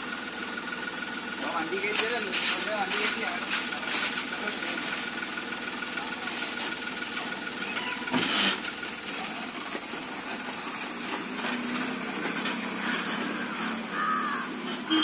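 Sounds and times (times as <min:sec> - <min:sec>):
pickup truck engine running: 0:00.0 - 0:13.9.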